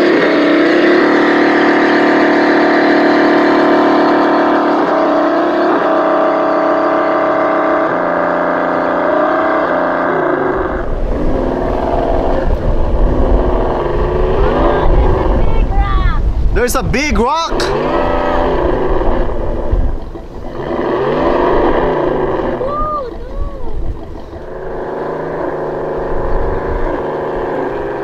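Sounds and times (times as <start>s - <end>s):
electric motor whining: 0.0s - 16.1s, 17.0s - 28.0s
low rumble: 1.9s - 28.0s.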